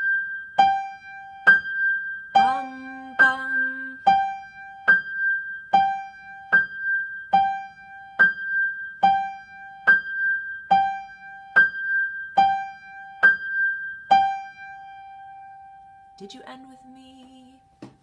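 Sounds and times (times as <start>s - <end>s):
keyboard playing piano tone notes: 0.0s - 16.2s.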